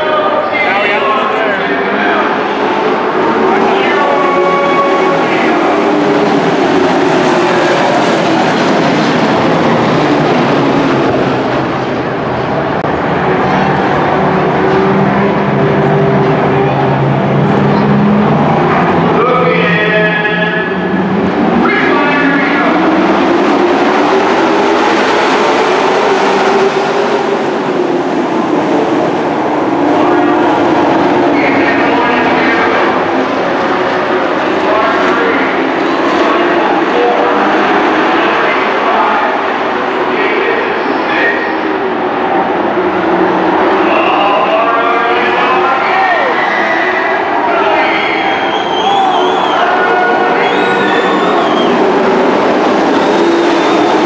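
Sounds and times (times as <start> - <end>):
race truck engines droning: 0.0 - 54.0.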